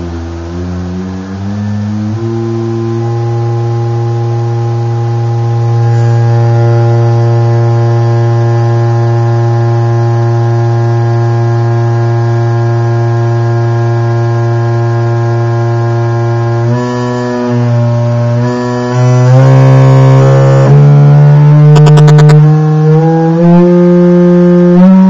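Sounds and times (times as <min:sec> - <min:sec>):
low buzzy tone: 0:00.0 - 0:25.0.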